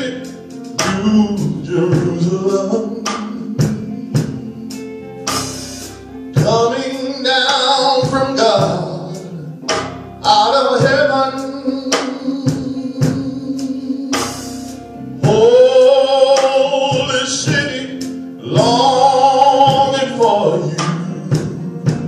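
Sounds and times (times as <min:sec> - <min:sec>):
man singing long notes: 0:00.0 - 0:05.3, 0:06.4 - 0:22.0
drums hitting: 0:00.0 - 0:22.0
gospel band playing: 0:00.0 - 0:22.0.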